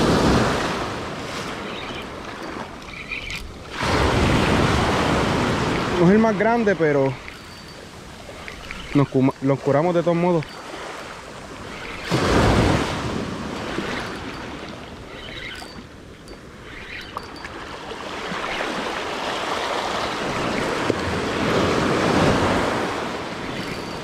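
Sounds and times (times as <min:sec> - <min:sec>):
waves breaking on sand beach: 0:00.0 - 0:24.0.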